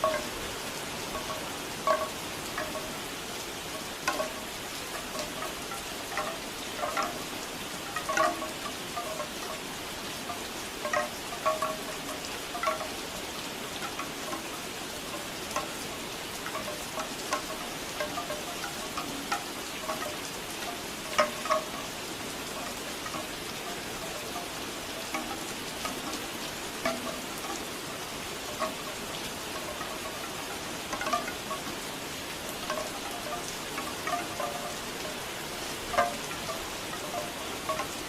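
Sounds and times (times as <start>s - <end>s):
bamboo wind chimes clacking: 0.0s - 38.0s
falling rain hiss: 0.0s - 38.0s.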